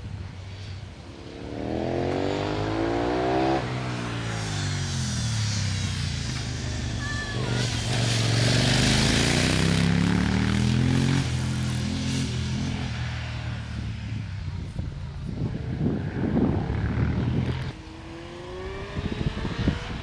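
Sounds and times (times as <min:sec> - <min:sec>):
racing motorcycle engine: 0:00.0 - 0:20.0.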